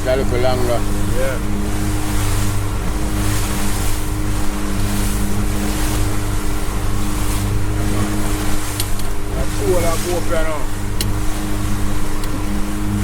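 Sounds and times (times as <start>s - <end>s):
motorboat engine running: 0.0s - 13.0s
water rushing: 0.0s - 13.0s.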